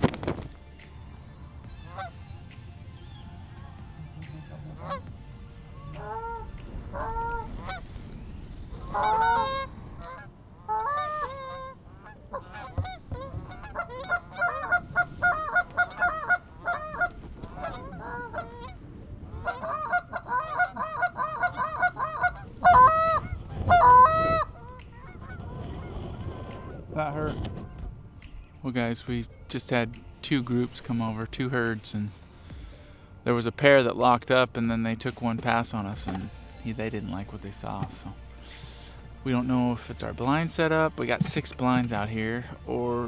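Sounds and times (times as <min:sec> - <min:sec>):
geese honking and clucking: 0:00.1 - 0:28.0, 0:35.4 - 0:43.0.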